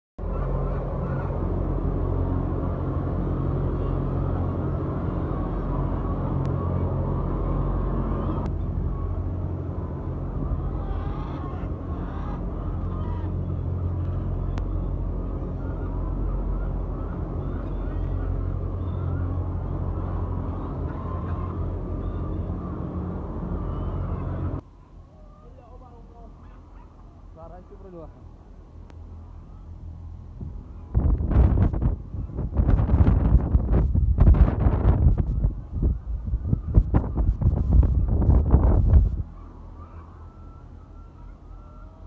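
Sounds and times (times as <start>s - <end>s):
low machinery hum: 0.2s - 42.0s.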